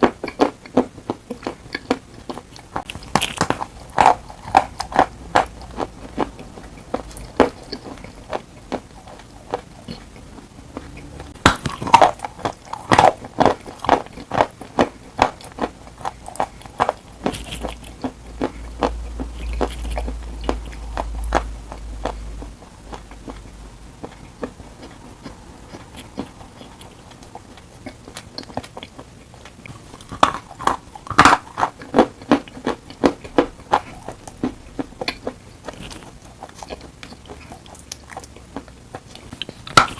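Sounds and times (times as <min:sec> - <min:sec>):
rapid crunching chews: 0:00.0 - 0:39.9.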